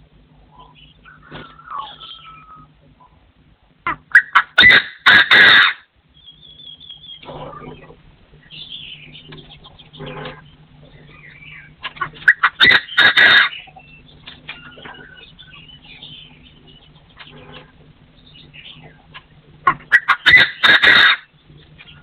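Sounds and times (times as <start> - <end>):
partridge calling: 0.5 - 3.2, 3.9 - 22.0.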